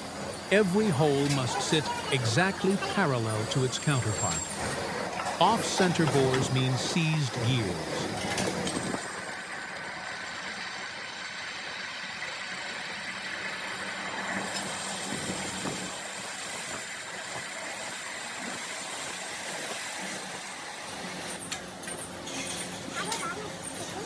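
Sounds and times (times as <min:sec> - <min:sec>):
drilling machine running: 0:00.0 - 0:21.2.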